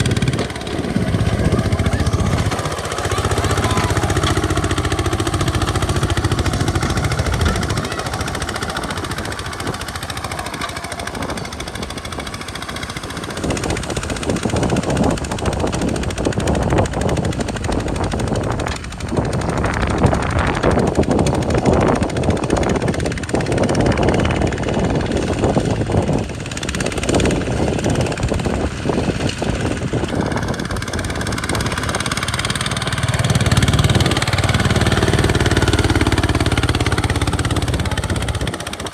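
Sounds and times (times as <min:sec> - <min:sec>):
walking tractor engine running: 0:00.0 - 0:38.9.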